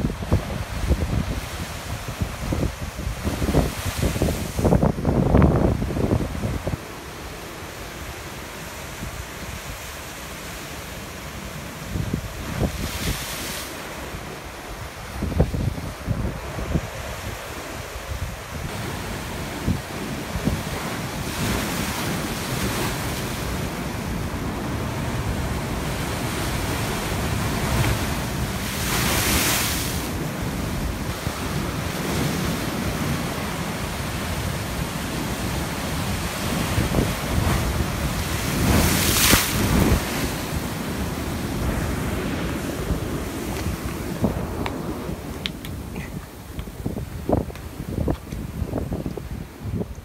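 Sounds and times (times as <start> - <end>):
wind buffeting microphone: 0.0 - 7.0, 11.8 - 50.0
waves crashing: 0.0 - 50.0
waves rushing over rocks: 0.0 - 50.0.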